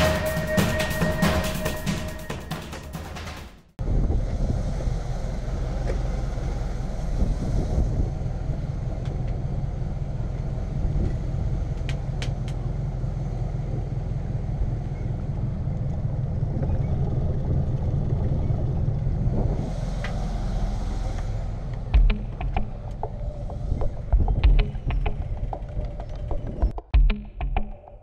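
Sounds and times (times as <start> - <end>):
wind buffeting microphone: 3.8 - 12.8, 13.4 - 26.8
boat engines idling: 4.2 - 26.9.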